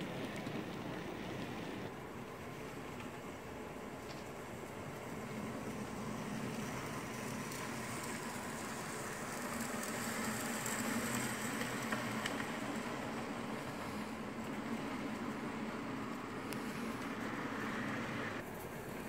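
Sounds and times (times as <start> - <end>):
model train humming on rails: 0.0 - 19.0.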